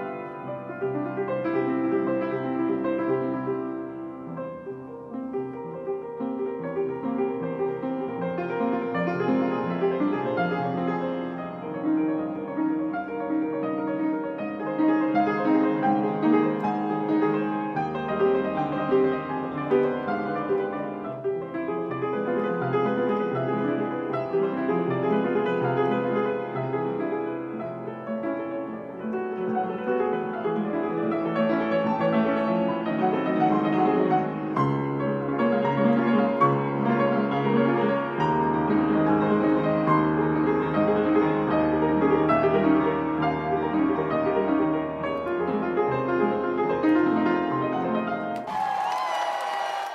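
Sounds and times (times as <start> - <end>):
upright piano playing: 0.0 - 49.9.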